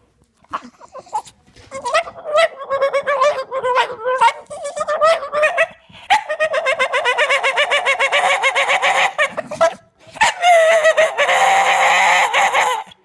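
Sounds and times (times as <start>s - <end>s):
dog whining and grumbling: 0.4s - 13.0s.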